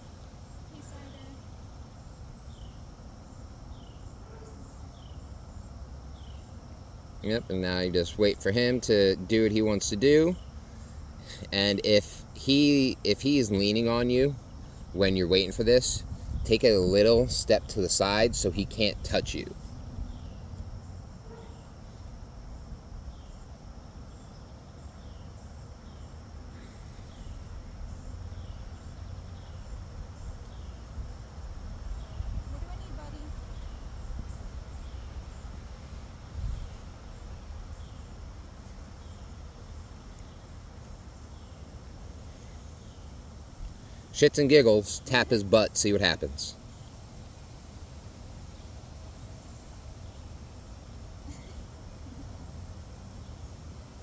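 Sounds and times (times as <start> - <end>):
crickets trilling: 0.0 - 54.0
low outdoor rumble: 0.0 - 54.0.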